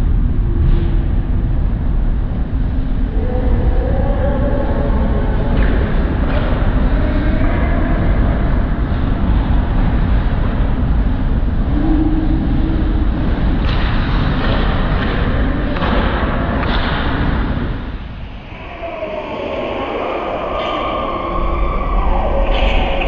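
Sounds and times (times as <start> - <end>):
muffled ice rink rumble: 0.0 - 23.0.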